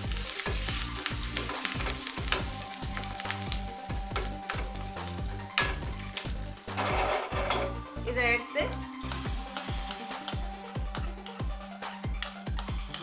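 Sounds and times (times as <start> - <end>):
leaves sizzling in hot oil: 0.0 - 13.0.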